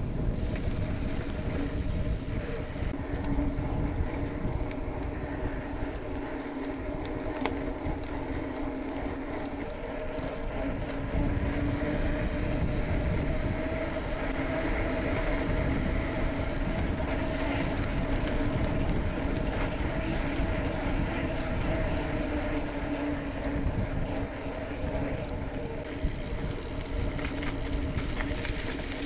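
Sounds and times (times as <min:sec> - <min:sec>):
bicycle tyres rolling: 0:00.0 - 0:29.0
wind buffeting microphone: 0:00.0 - 0:29.0.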